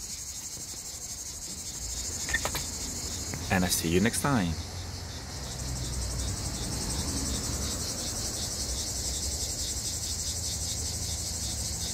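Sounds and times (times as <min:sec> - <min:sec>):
insects chirring: 0:00.0 - 0:11.9.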